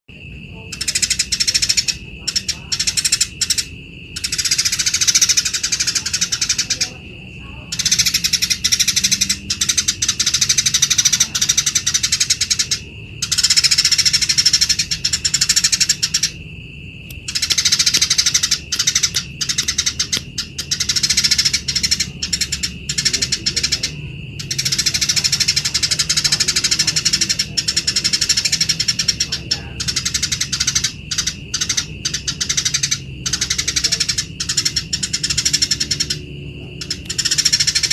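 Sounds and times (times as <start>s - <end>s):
sparrows harsh fighting chatter: 0.2s - 37.9s.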